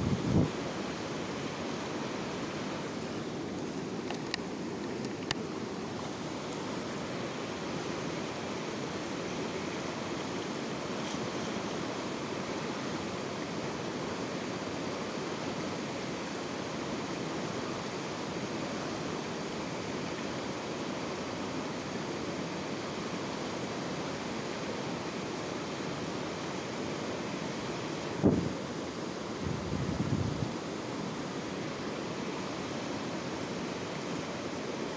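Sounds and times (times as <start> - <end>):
rushing outdoor noise: 0.0 - 34.9.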